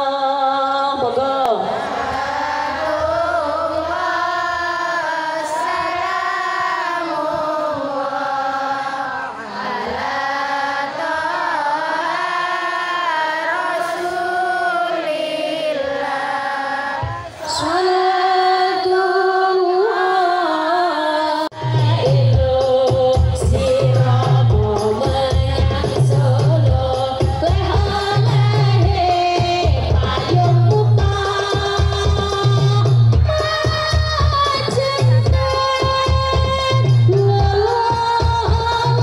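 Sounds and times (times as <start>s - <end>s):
woman singing devotional song: 0.0s - 39.0s.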